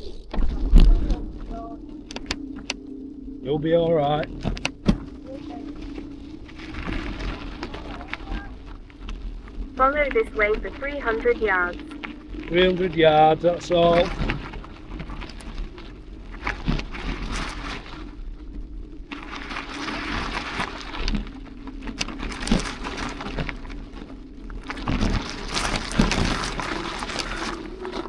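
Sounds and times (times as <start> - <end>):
bicycle rattles and clicks: 0.0 - 11.0, 11.7 - 28.0
bicycle tyres crunching: 0.0 - 28.0
steady low hum: 0.0 - 28.0.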